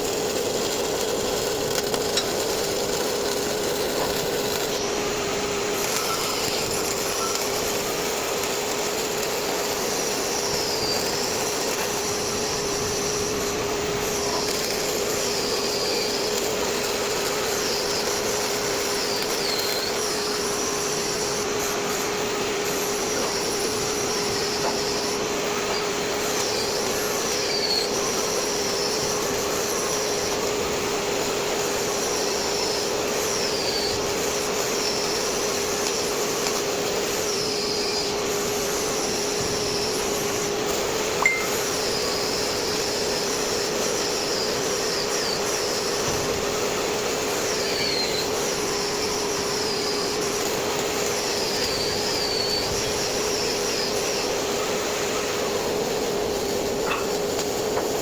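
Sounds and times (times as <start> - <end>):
welding arc hissing: 0.0 - 58.0.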